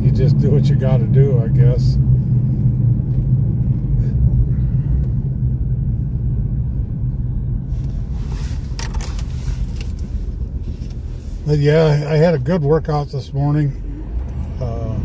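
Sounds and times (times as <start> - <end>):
vehicle engine rumble inside cab: 0.0 - 15.0.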